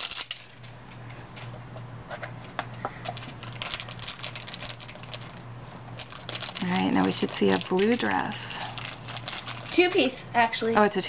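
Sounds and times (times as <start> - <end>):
plastic wrapping crinkling: 0.0 - 1.5, 2.7 - 10.1
steady low hum: 0.0 - 11.0.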